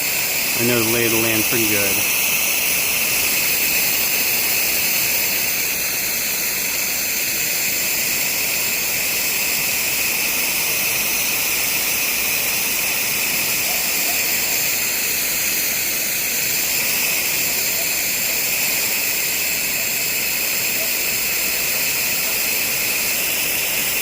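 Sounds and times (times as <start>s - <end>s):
pressure washer spraying: 0.0s - 24.0s.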